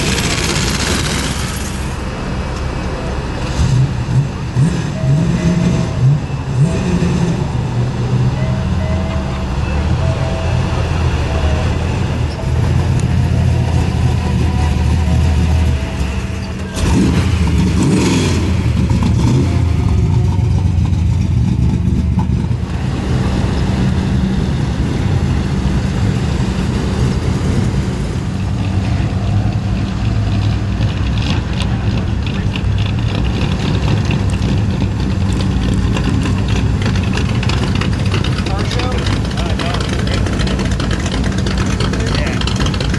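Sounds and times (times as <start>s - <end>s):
car engines rumbling: 0.0s - 42.9s
engine rev: 0.0s - 42.9s.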